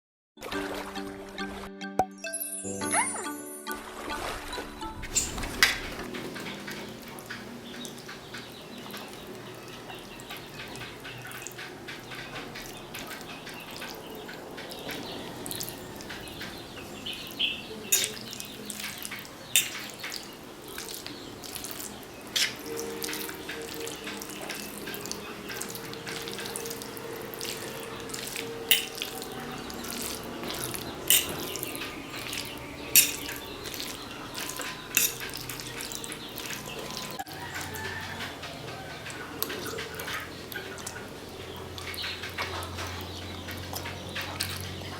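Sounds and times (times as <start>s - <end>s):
water running: 3.8s - 44.8s.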